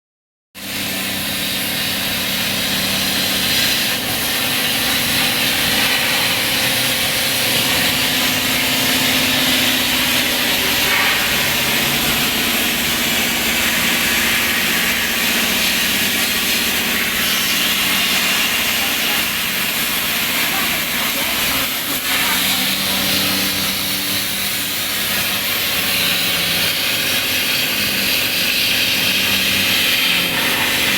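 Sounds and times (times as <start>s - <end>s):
plasma cutter hissing: 0.9s - 30.9s.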